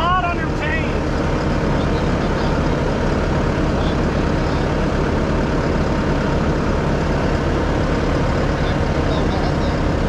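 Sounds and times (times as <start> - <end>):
loud diesel engine running: 0.0 - 10.0.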